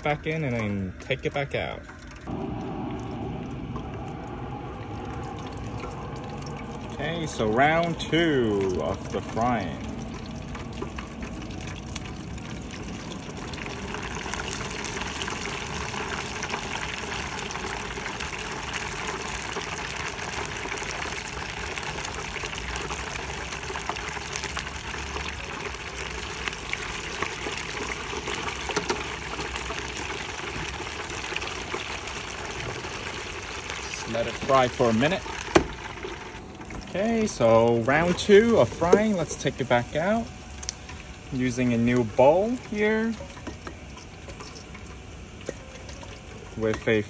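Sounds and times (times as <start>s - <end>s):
hot oil sizzling and bubbling: 0.0s - 47.0s.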